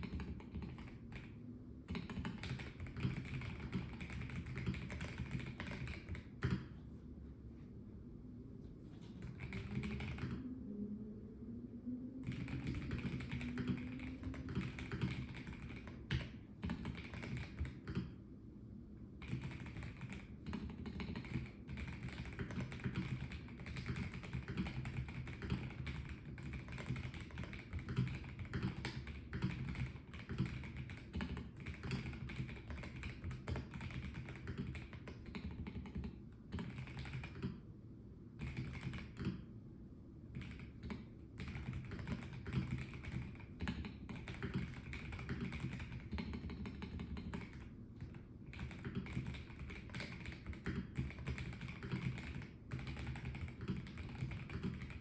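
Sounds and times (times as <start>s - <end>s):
mechanical keyboard typing: 0.0s - 1.3s, 1.9s - 6.7s, 9.2s - 10.4s, 12.2s - 18.2s, 19.2s - 37.6s, 38.4s - 39.4s, 40.4s - 55.0s.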